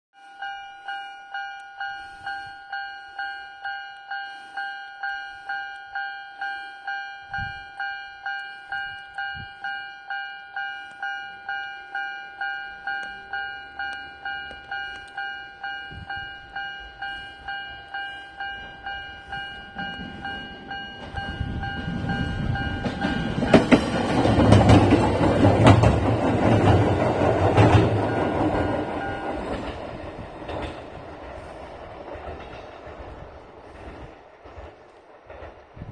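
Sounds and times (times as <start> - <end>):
level crossing alarm dinging: 0.2 - 29.8
train wheels clicking over rail joints: 0.4 - 35.9.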